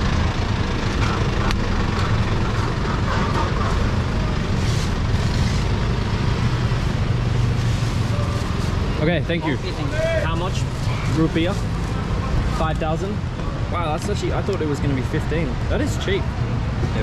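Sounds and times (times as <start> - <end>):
street traffic rumble: 0.0 - 17.0
truck running: 0.0 - 17.0.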